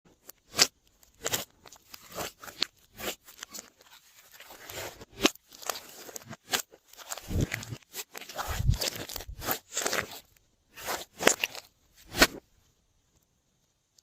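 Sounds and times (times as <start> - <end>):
slime squelching: 0.2 - 12.4.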